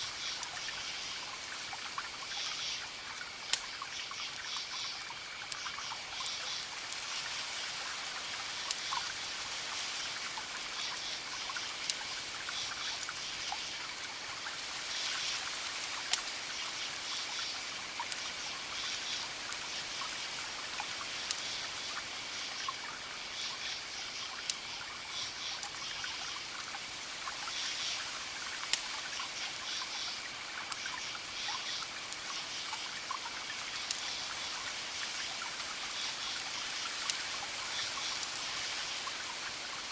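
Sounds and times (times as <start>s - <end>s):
crickets chirping: 0.0s - 39.9s
campfire crackling and popping: 0.2s - 39.9s.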